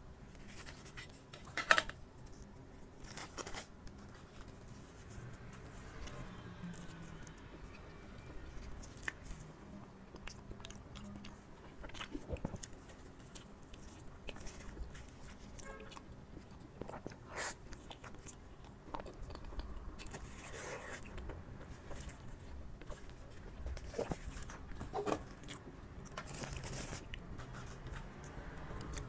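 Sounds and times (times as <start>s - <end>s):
biting and chewing pastry: 2.1s - 29.0s.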